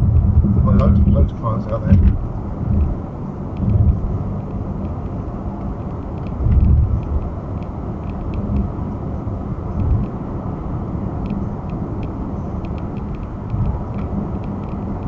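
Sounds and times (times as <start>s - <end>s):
car engine noise: 0.0s - 15.0s
tyres rumbling on road: 0.0s - 15.0s.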